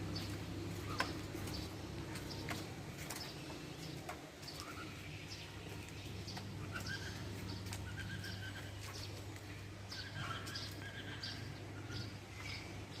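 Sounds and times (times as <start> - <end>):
songbirds chirping and trilling: 0.0 - 13.0
steady low hum: 0.0 - 13.0.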